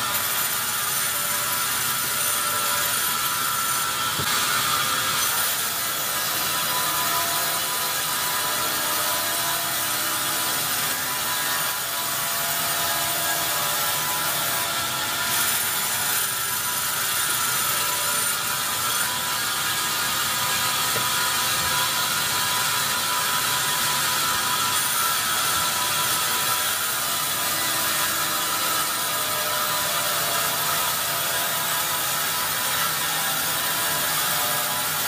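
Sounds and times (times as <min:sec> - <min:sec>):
band saw cutting log: 0:00.0 - 0:35.0.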